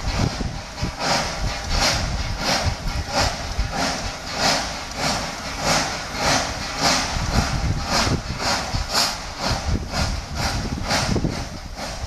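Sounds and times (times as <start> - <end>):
low rumble: 0.0 - 12.0
steam locomotive exhaust chuffs: 0.0 - 12.0.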